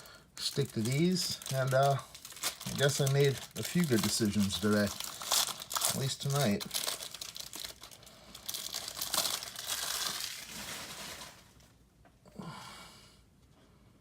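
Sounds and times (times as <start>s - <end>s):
plastic wrappers crinkling: 0.0s - 11.8s.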